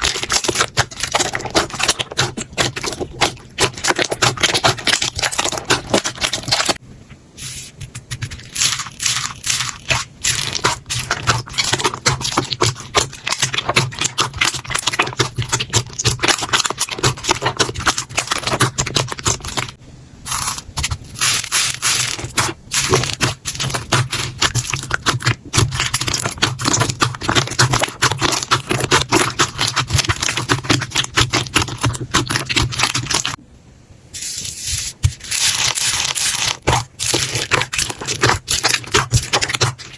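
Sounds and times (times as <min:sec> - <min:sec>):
slime crackling and popping: 0:00.0 - 0:06.8, 0:07.9 - 0:33.4, 0:35.0 - 0:39.9.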